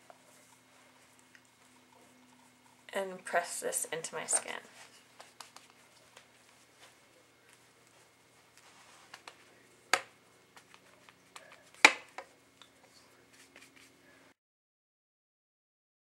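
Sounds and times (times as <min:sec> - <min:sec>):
faint steady hum: 0:00.0 - 0:14.4.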